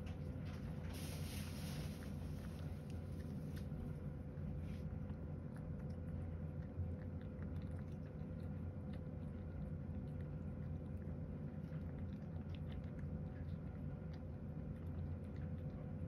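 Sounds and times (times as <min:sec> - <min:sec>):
cat chewing food: 0:00.0 - 0:16.0
steady low hum: 0:00.0 - 0:16.0.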